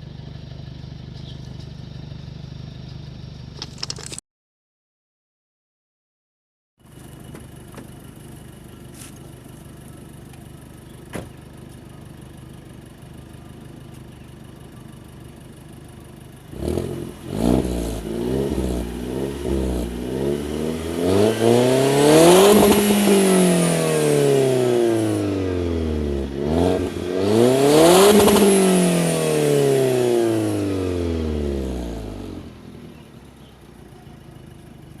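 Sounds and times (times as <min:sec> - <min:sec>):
car engine idling and revving: 0:00.0 - 0:04.1, 0:06.8 - 0:35.0.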